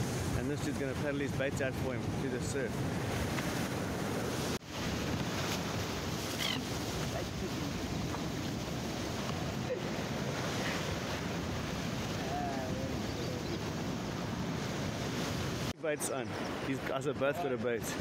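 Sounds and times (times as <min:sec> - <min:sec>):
ocean surf breaking over rocks: 0:00.0 - 0:18.0.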